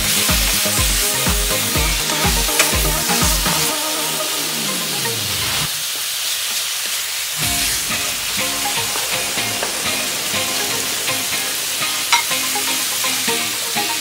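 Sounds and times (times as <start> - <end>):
background music: 0.0 - 5.7, 7.4 - 14.0
meat sizzling in a wok: 0.0 - 14.0.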